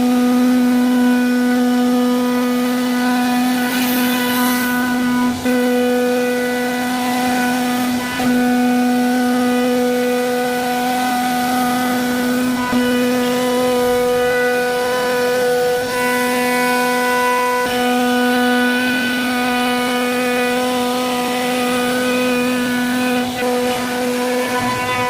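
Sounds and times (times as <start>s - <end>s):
router spindle whining cutting wood: 0.0s - 25.0s.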